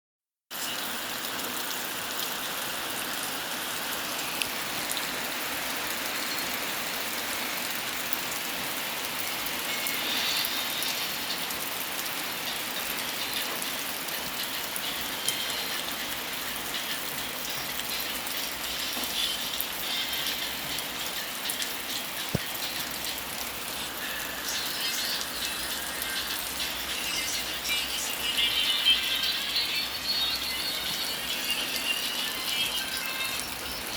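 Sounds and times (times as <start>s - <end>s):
rain falling: 0.5s - 33.9s.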